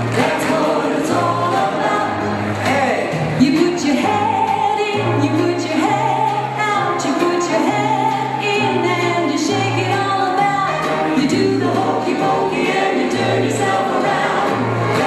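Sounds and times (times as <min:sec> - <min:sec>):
group singing: 0:00.0 - 0:15.0.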